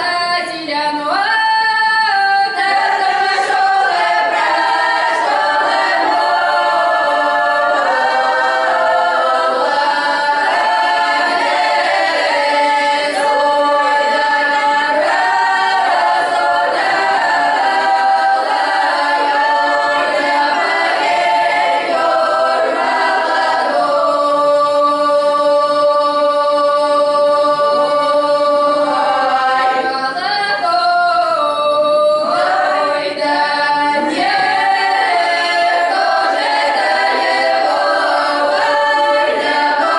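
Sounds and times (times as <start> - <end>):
children singing a cappella: 0.0 - 39.9.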